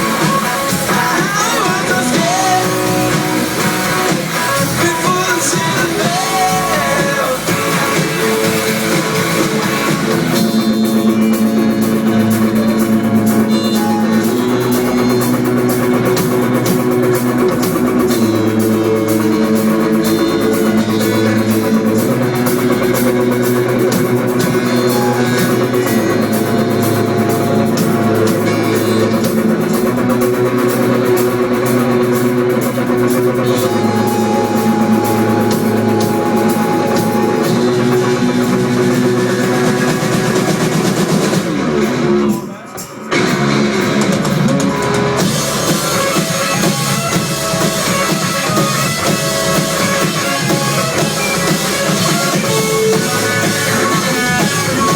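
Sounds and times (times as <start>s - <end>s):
bass guitar: 0.0s - 54.9s
drum kit beat: 0.0s - 54.9s
electric guitars: 0.0s - 54.9s.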